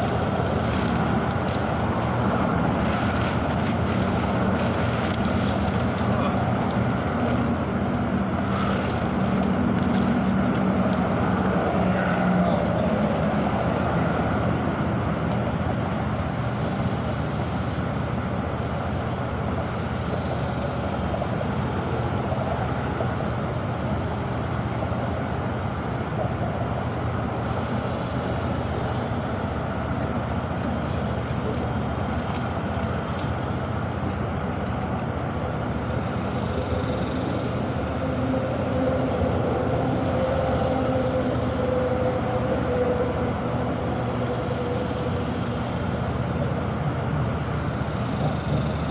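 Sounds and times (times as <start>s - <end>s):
heavy vehicle engine running: 0.0s - 48.9s
road traffic rumble: 0.0s - 48.9s.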